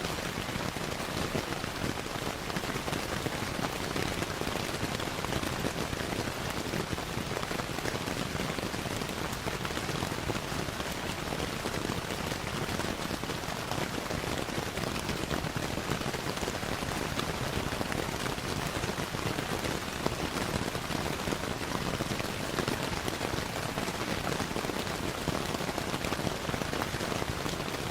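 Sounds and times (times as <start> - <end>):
steady rainfall: 0.0 - 27.9.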